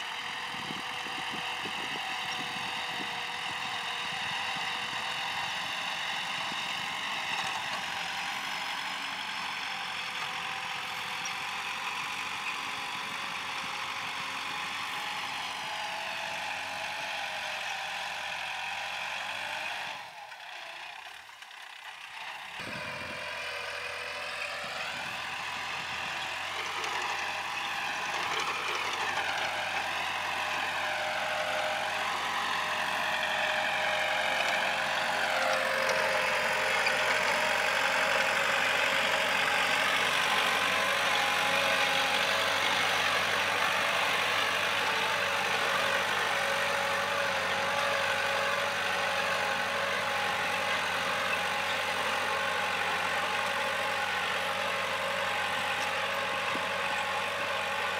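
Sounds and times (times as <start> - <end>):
diesel tractor engine under load: 0.0 - 57.9.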